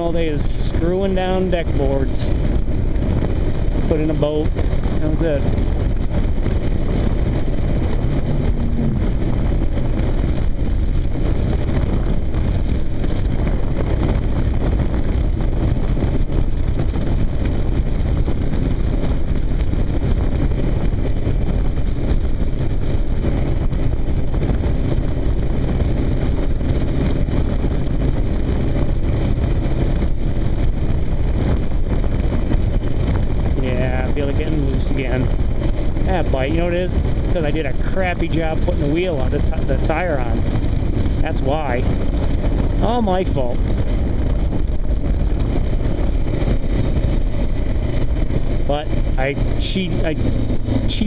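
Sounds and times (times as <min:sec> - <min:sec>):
motorcycle engine drone: 0:00.0 - 0:51.0
wind rush on microphone: 0:00.0 - 0:51.0.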